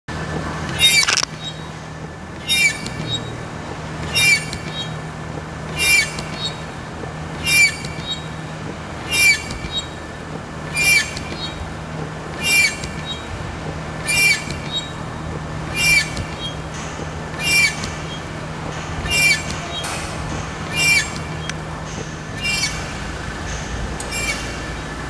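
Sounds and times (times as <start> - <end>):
windshield wipers sweeping: 0.1 - 25.0
wiper blades squealing on glass: 0.6 - 25.0.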